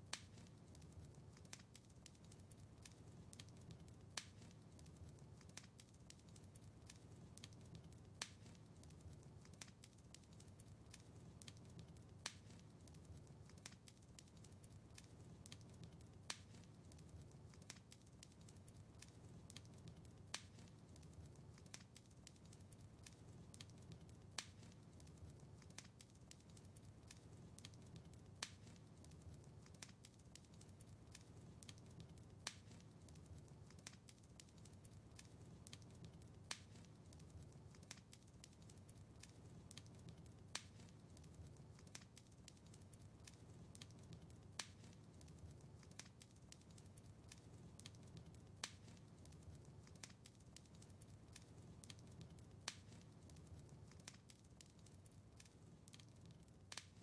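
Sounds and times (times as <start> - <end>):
low fire rumble: 0.0 - 57.0
wood fire crackling: 0.0 - 57.0
sharp fire pops: 0.1 - 57.0.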